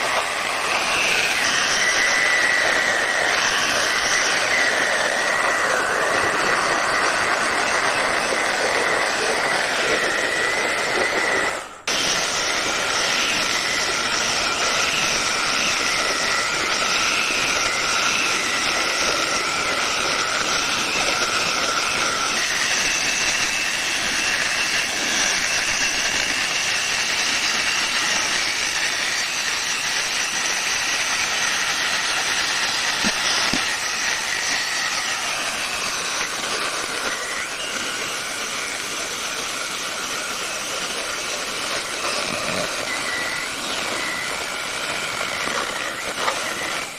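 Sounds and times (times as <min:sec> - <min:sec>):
electric saw cutting wood: 0:00.0 - 0:46.9.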